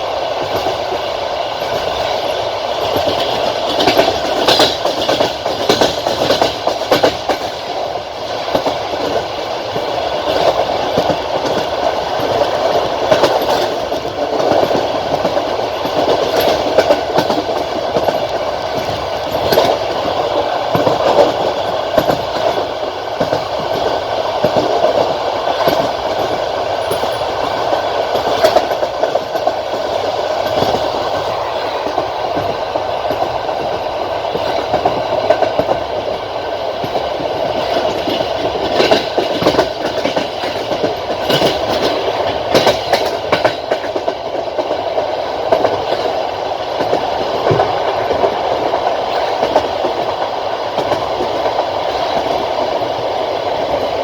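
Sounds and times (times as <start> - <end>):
train wheels rumbling: 0.0 - 54.0
wheels clacking over rail joints: 0.0 - 54.0.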